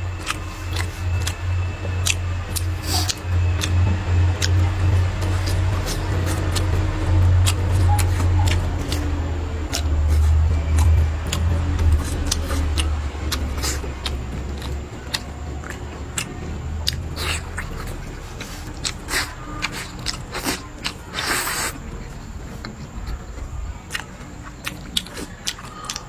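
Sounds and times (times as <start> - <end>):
low rumble: 0.0 - 21.1, 21.7 - 25.4
biting and chewing: 0.0 - 26.0.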